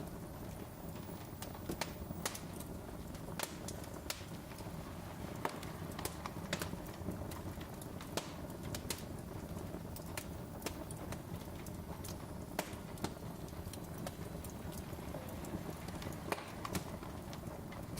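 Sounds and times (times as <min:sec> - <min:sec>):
low rumble of flames: 0:00.0 - 0:17.9
wood fire crackling and popping: 0:00.0 - 0:17.9.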